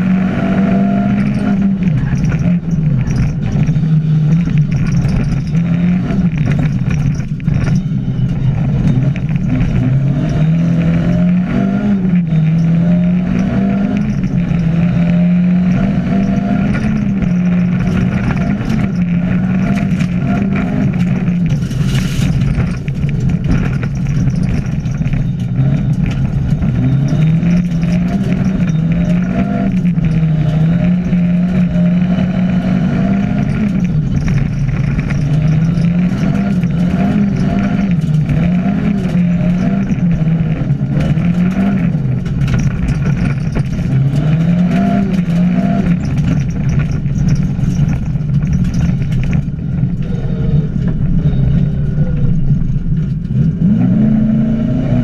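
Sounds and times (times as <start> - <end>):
gravel clattering against car: 0.0 - 55.0
rally car engine revving: 0.0 - 55.0.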